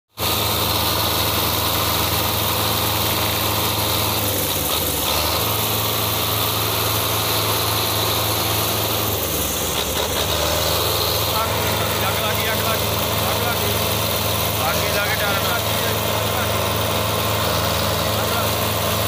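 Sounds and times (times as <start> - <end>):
tractor diesel engine idling: 0.1 - 19.0.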